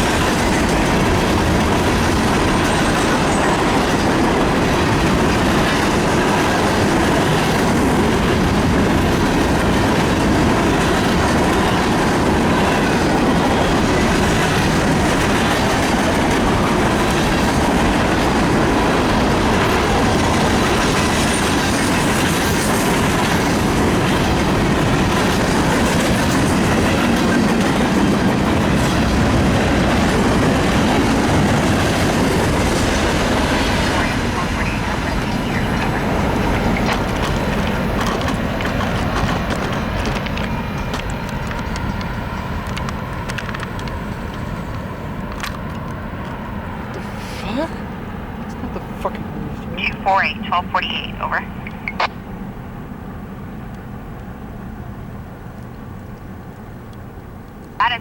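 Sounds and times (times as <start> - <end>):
train wheels clacking over rails: 0.0 - 47.2.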